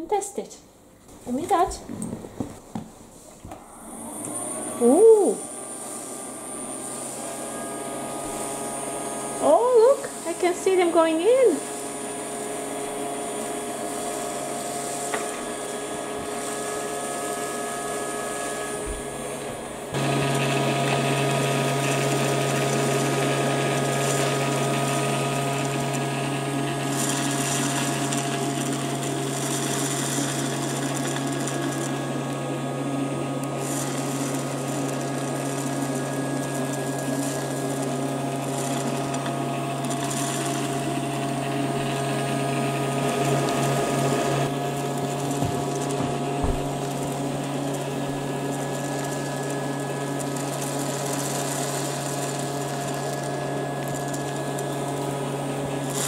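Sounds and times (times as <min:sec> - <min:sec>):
toy vacuum cleaner motor whining: 0:03.6 - 0:56.0.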